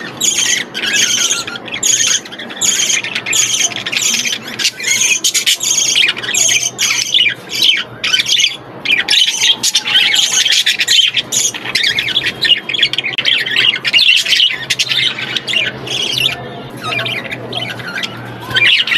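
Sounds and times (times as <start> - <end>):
budgerigars chattering and squawking: 0.0 - 18.9.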